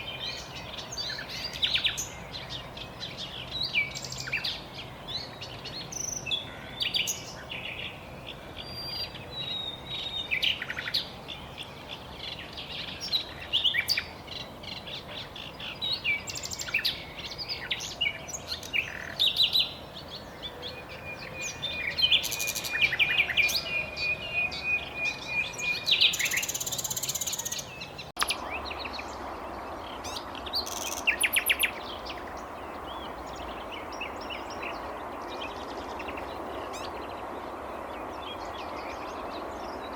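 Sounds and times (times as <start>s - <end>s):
background hiss: 0.0s - 39.9s
nightingale singing: 0.0s - 39.9s.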